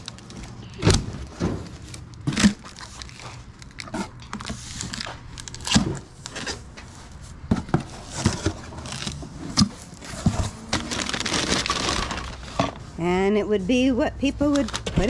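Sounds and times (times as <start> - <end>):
wrapping rustling and crinkling: 0.0 - 13.0, 14.4 - 15.0.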